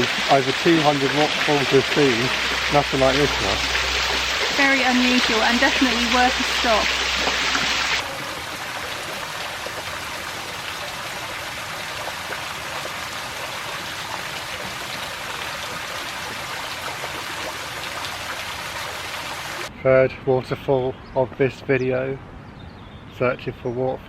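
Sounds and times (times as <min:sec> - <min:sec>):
waterfall rushing: 0:00.0 - 0:19.7.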